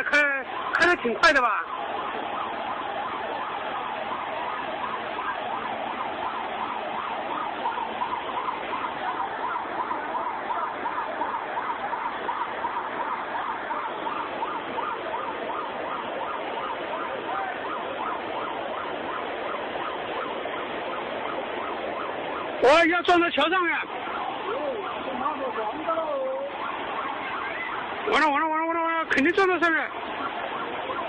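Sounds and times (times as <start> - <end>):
rushing floodwater: 0.0 - 31.0
warbling siren-like tone: 0.0 - 31.0.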